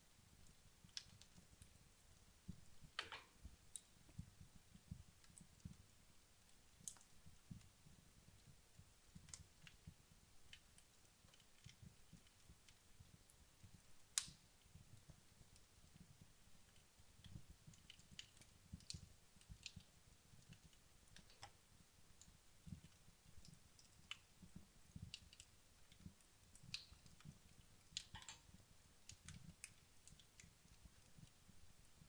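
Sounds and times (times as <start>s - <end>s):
fire crackling and popping: 0.1s - 32.0s.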